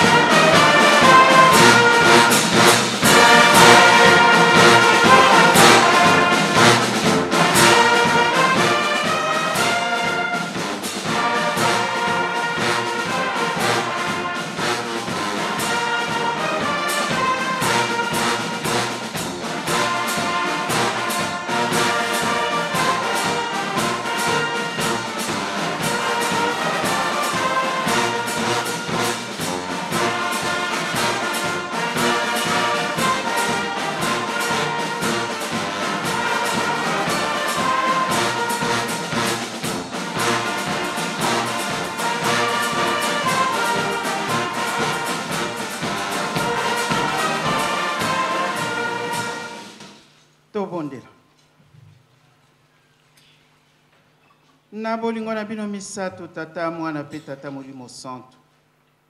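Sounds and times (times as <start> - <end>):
drum beat: 0.0 - 50.2
brass band playing: 0.0 - 51.0.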